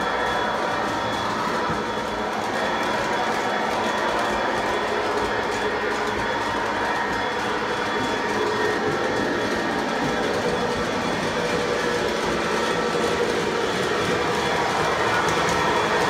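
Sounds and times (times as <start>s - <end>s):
model train motor hum: 0.0s - 16.0s.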